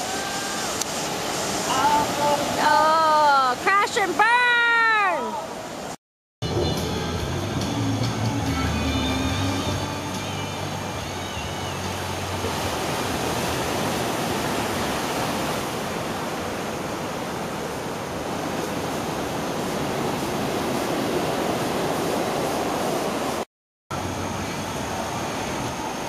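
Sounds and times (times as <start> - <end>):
breaking surf: 0.0 - 6.0, 7.6 - 26.0.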